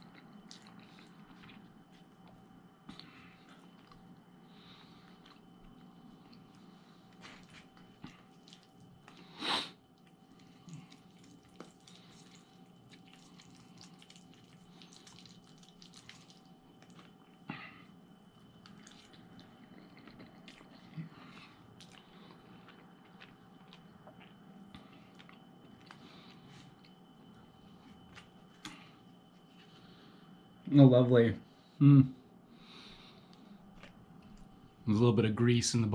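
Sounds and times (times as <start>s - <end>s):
chewing spaghetti: 0.0s - 29.4s, 33.3s - 34.6s.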